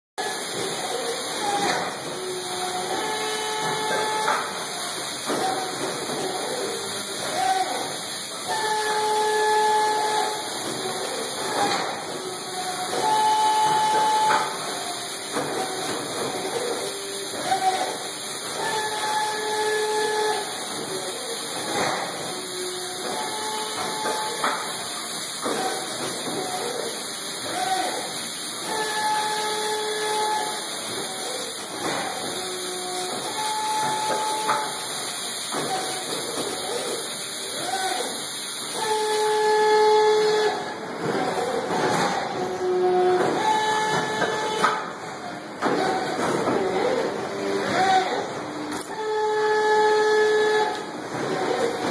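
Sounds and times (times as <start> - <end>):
hissing machinery: 0.2 - 51.9.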